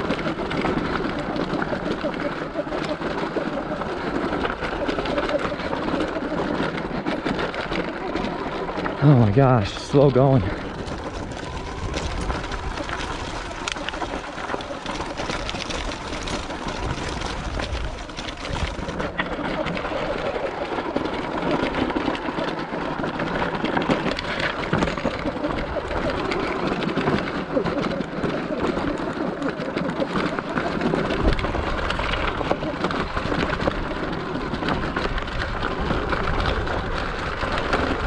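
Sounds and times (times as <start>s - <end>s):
bike knocking and clattering: 0.0s - 38.0s
tyres crunching over gravel: 0.0s - 38.0s.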